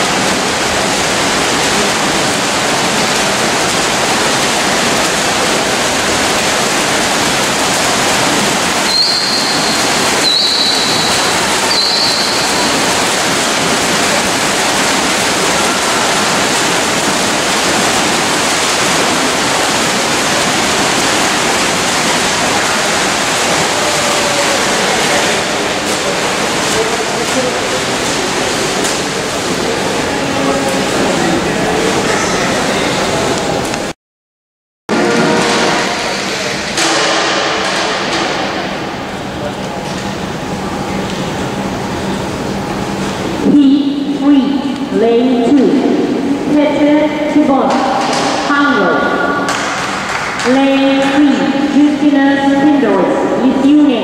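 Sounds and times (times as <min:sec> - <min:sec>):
swimmers splashing in pool: 0:00.0 - 0:33.9, 0:34.9 - 0:53.5.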